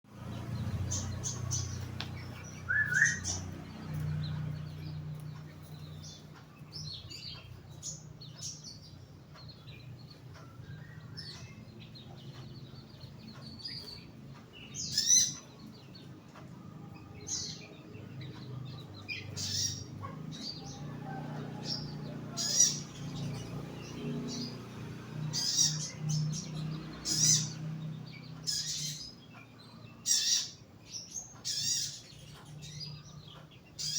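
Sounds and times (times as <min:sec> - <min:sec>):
young birds chirping: 0:00.1 - 0:33.9.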